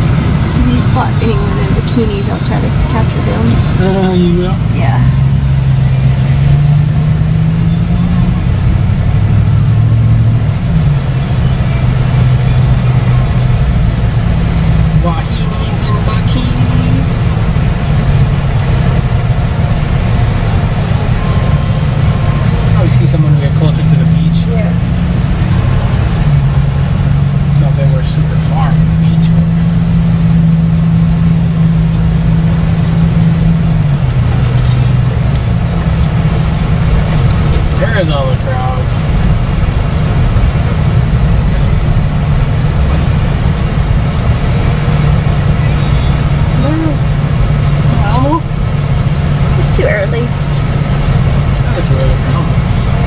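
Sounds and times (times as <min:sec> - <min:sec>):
car engine low hum: 0:00.0 - 0:53.0
road noise: 0:00.0 - 0:53.0.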